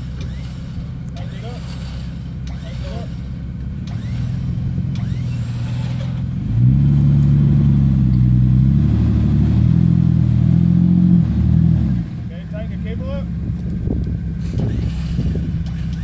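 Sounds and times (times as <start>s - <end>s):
engine working under load: 0.0s - 16.0s.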